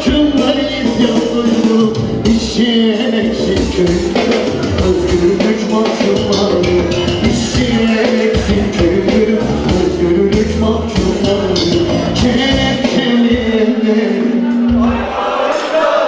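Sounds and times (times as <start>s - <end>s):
band playing amplified folk song: 0.0s - 16.0s
steady drum beat: 0.0s - 16.0s.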